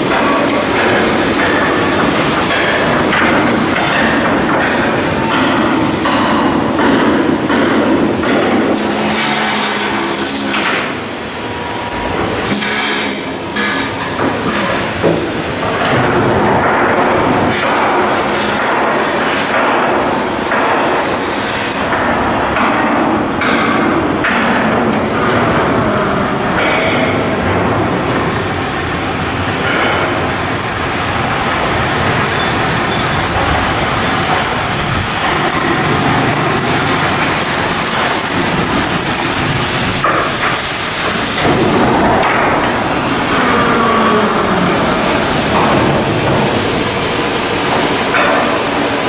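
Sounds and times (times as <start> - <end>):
machinery din: 0.0 - 49.0.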